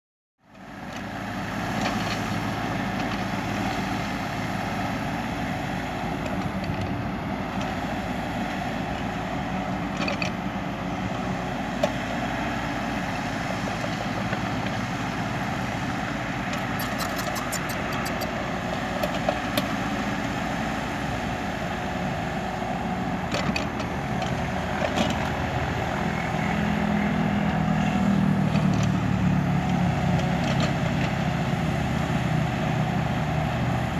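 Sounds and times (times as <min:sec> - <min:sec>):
excavator diesel engine running: 0:00.5 - 0:33.9.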